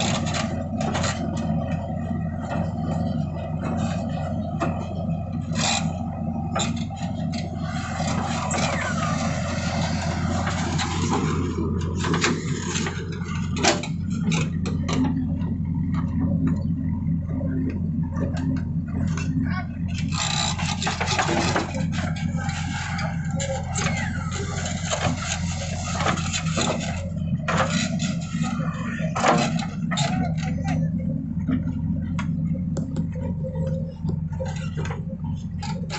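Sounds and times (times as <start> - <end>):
diesel engine running: 0.0 - 35.9
metal clanks and rattles: 0.0 - 35.9.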